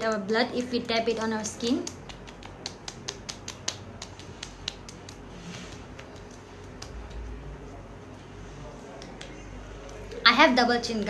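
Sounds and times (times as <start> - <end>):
fingertips tapping on skin: 0.0 - 7.5, 8.8 - 10.2.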